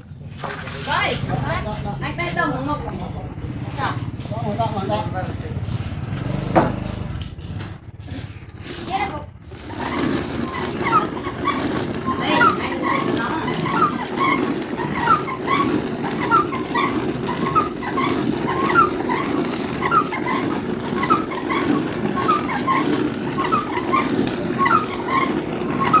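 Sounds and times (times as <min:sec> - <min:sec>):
hand mill grinding rumble: 0:00.0 - 0:26.0.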